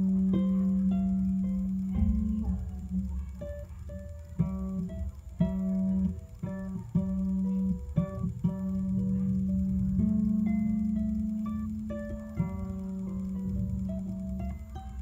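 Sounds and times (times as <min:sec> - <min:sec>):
harp being plucked: 0:00.0 - 0:15.0.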